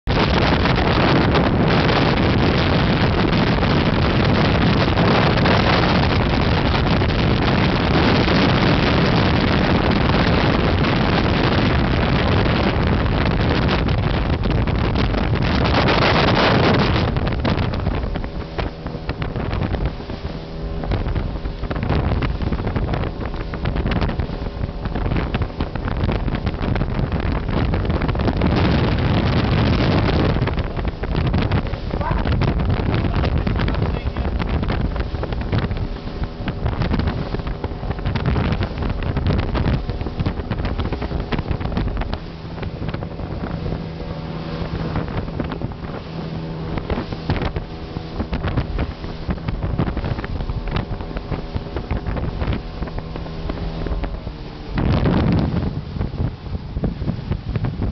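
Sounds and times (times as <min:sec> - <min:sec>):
motorboat engine running: 0:00.0 - 0:57.9
wind buffeting microphone: 0:00.0 - 0:57.9.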